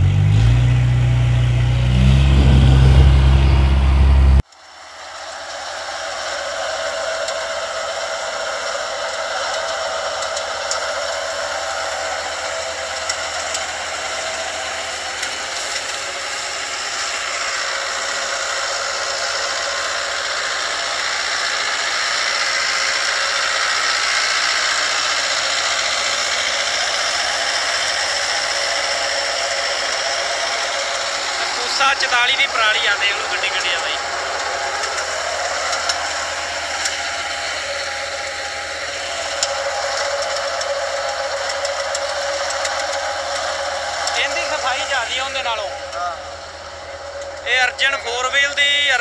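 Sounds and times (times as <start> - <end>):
farm machine rattle and whir: 0.0 - 49.0.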